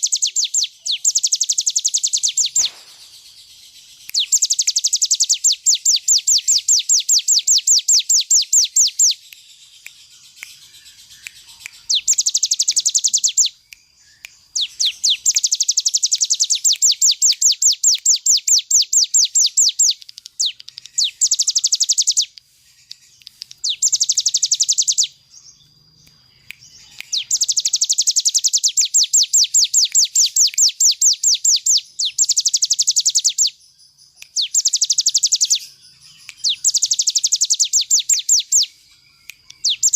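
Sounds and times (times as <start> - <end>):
songbird rapid rattling song: 0.0 - 39.9.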